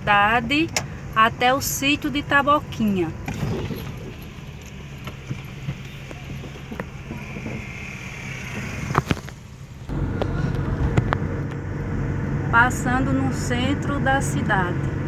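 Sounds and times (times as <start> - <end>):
road noise: 0.0 - 15.0
car engine running: 1.8 - 15.0.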